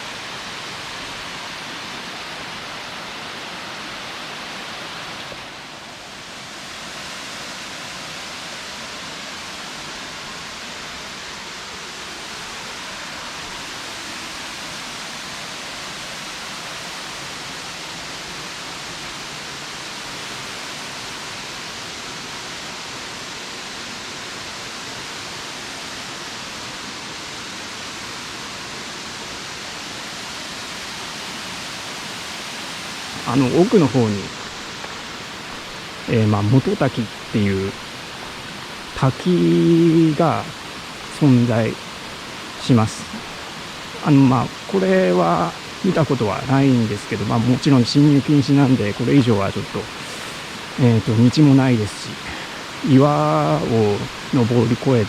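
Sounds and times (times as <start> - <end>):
water cascading over rocks: 0.0 - 55.0.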